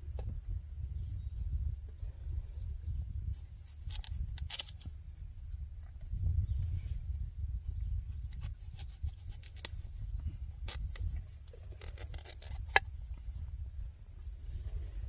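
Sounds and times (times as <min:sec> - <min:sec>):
low rumble of fire: 0:00.0 - 0:15.0.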